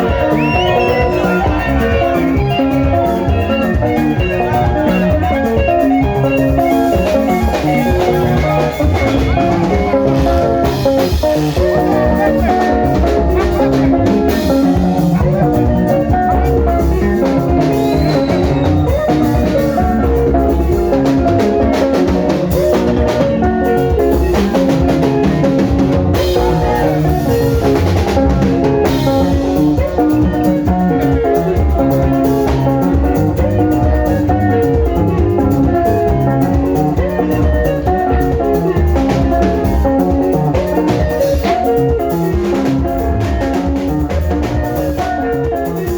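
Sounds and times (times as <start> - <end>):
bass guitar: 0.0 - 45.9
drum kit beat: 0.0 - 45.9
electric guitars interlocking lines: 0.0 - 45.9.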